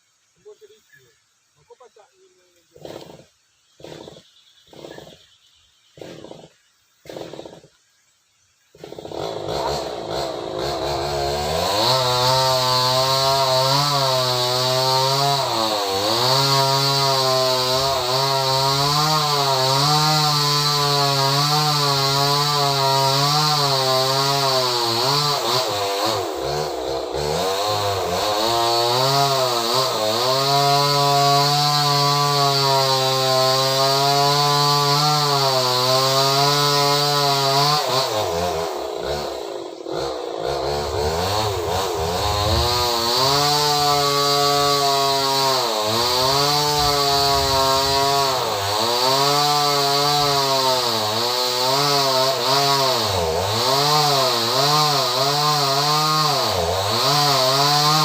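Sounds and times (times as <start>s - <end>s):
chainsaw cutting tree trunk: 2.6s - 7.8s, 8.7s - 58.0s.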